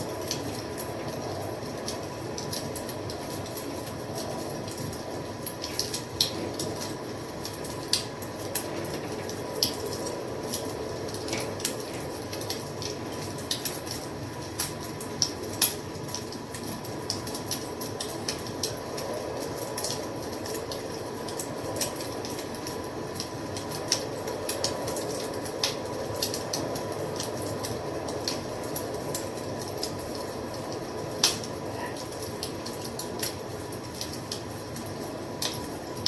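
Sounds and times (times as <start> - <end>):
fire popping and snapping: 0.0 - 36.0
wood fire crackling: 0.0 - 36.0.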